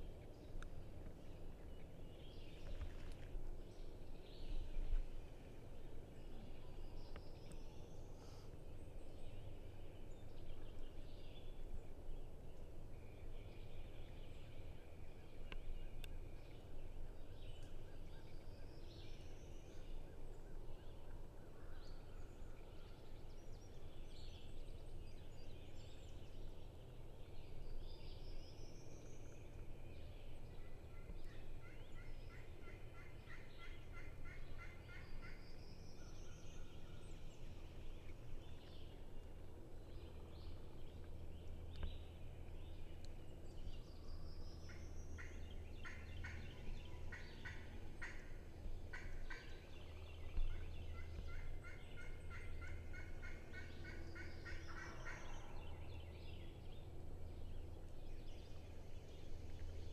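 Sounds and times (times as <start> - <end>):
low wind rumble: 0.0 - 59.9
songbirds singing: 0.0 - 59.9.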